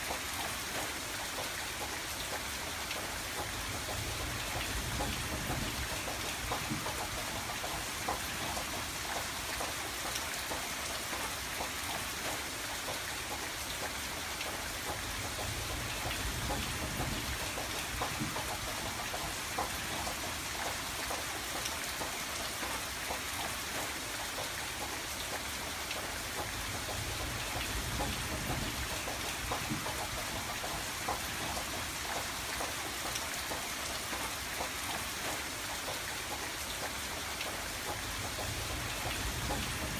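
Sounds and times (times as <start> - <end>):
rain falling on a window: 0.0 - 39.9.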